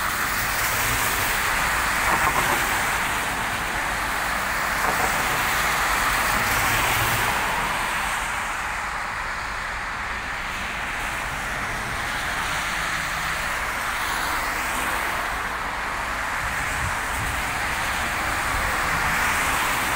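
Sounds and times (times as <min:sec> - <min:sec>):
tyres hissing on wet road: 0:00.0 - 0:19.9.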